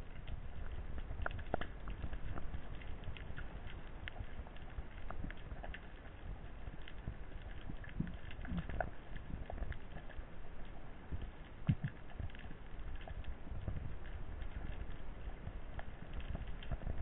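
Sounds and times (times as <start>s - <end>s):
underwater rumble of moving water: 0.0s - 17.0s.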